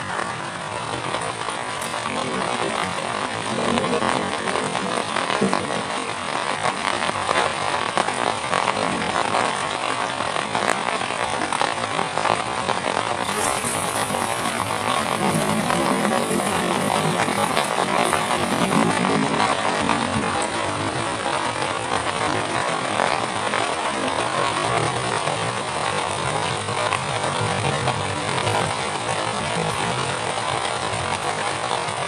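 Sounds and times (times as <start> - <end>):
heavy rain falling: 0.0 - 7.1, 7.8 - 32.0.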